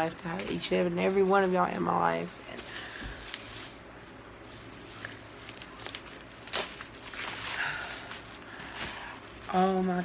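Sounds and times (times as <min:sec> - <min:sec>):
packaging rustling and crinkling: 0:00.4 - 0:10.0.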